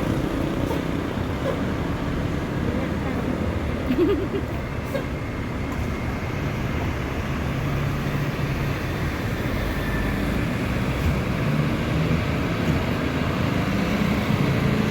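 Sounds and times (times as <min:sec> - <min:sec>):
bus engine running at low revs: 0:00.0 - 0:14.9.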